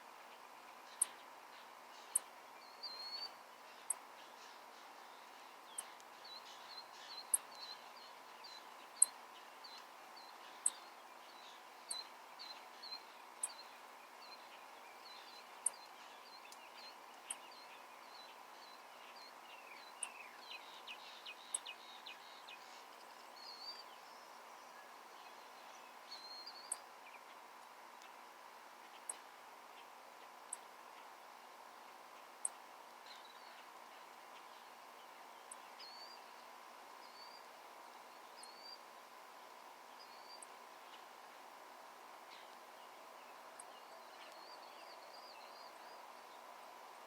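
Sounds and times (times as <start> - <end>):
small birds chirping: 0.1 - 47.0.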